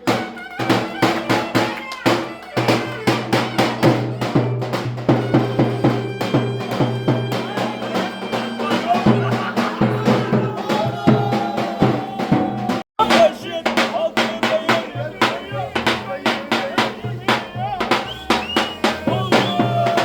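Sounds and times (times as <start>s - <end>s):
quick steady drum beat: 0.0s - 20.0s.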